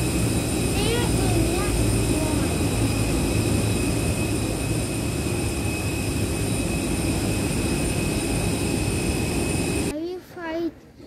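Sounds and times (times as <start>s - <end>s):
high-pitched whine: 0.0s - 9.9s
jet engines roaring: 0.0s - 9.9s
low hum: 0.0s - 9.9s.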